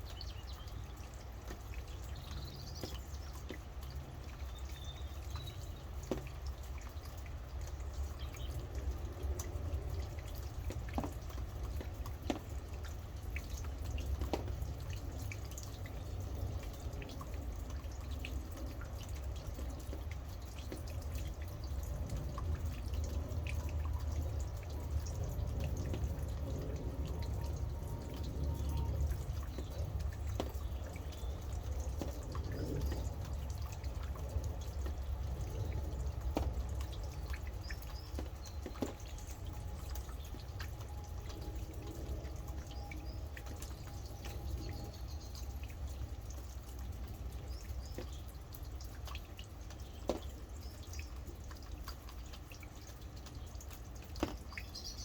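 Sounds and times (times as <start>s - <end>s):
rain drips: 0.0s - 55.0s
rain falling: 0.0s - 55.0s.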